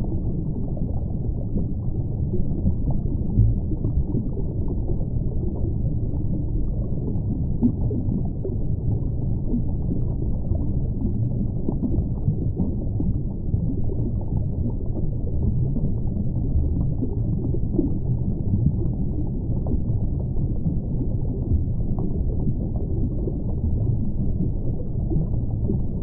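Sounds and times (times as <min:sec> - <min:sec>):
muffled underwater rumble: 0:00.0 - 0:26.0.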